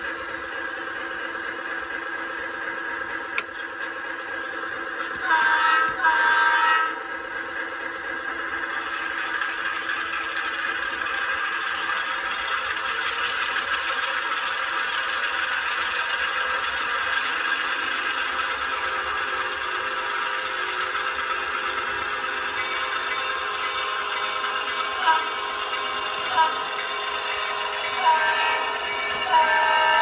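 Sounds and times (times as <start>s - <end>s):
model train diesel engine sound: 0.0s - 30.0s.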